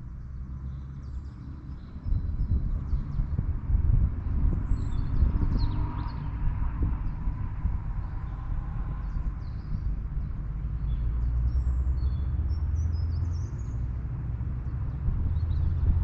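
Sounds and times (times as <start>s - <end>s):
small birds chirping: 0.0s - 13.9s, 14.6s - 16.0s
low steady rumble: 0.0s - 16.0s.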